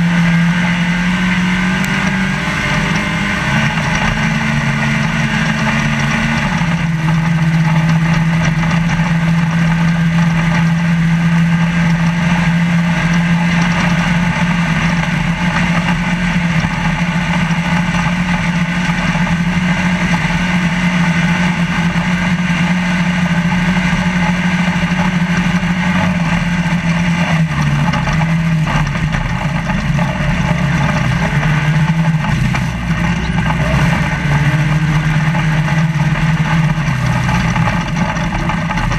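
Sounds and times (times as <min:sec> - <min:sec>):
constant rush of noise: 0:00.0 - 0:38.9
truck engine running at high revs: 0:00.0 - 0:38.9.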